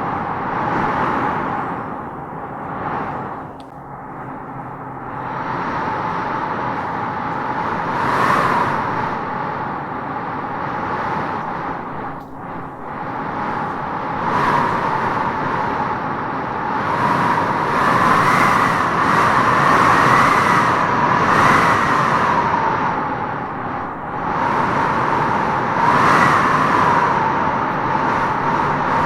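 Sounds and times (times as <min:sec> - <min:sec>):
howling wind gusting: 0:00.0 - 0:29.0.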